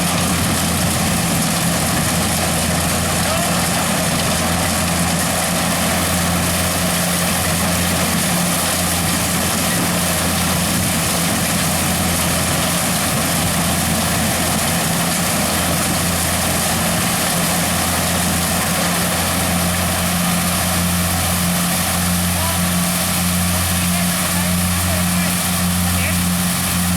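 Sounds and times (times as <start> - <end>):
combine harvester engine drone: 0.0 - 26.9.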